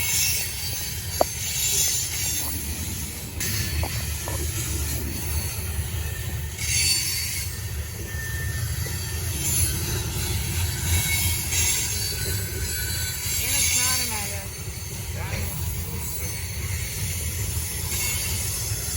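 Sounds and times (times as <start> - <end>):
train wheels rumbling on rail: 0.0 - 18.9
wheels hissing and squealing: 0.0 - 18.9.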